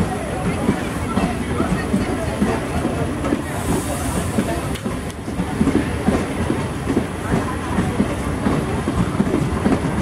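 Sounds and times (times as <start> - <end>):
train rumble: 0.0 - 10.0
train wheels clattering on rails: 0.0 - 10.0.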